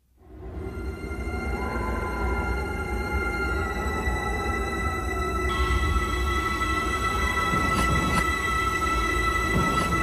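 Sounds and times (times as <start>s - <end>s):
soundtrack music: 0.2s - 10.0s
sustained high tones: 0.6s - 10.0s.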